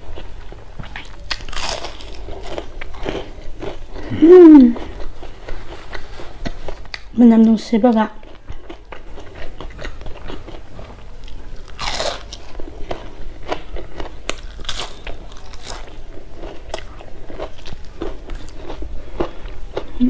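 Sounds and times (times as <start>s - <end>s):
crunchy chewing of fried food: 0.0s - 20.0s.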